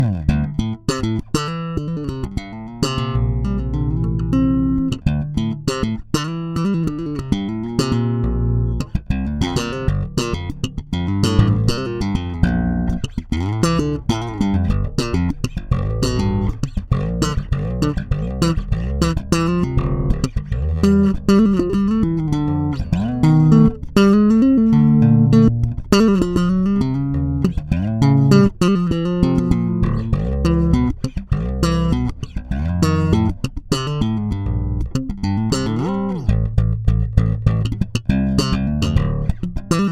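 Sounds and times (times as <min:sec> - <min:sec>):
electric bass playing melody: 0:00.0 - 0:39.9.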